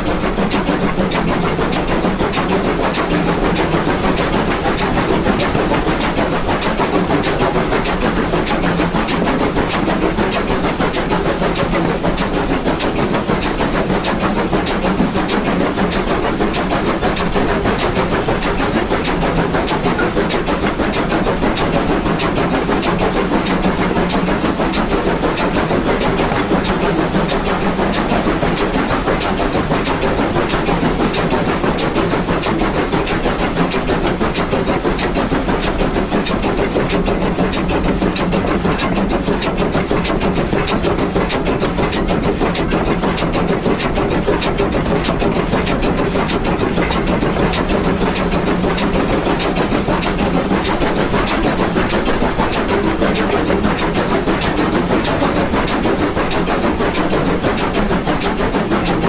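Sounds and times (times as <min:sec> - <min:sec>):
steam locomotive chuffing: 0:00.0 - 0:59.0
train running noise: 0:00.0 - 0:59.0.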